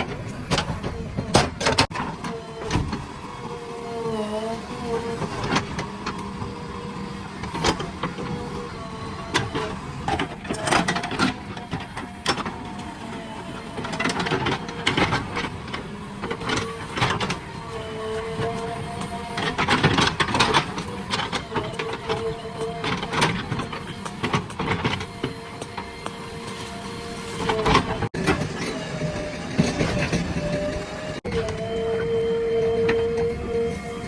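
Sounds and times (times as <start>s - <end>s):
diesel engine and hydraulic whine: 0.0s - 34.0s.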